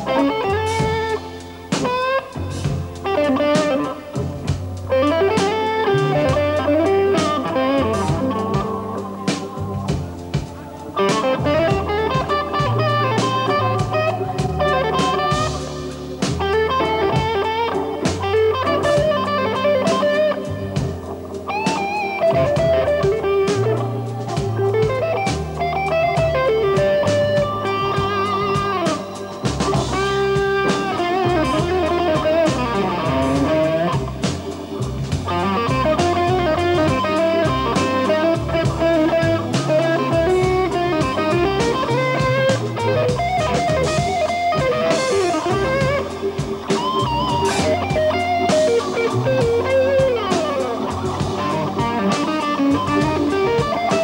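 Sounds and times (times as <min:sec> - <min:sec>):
drums with cymbals: 0:00.0 - 0:54.0
electric guitar solo: 0:00.0 - 0:54.0
organ bass notes: 0:00.0 - 0:54.0.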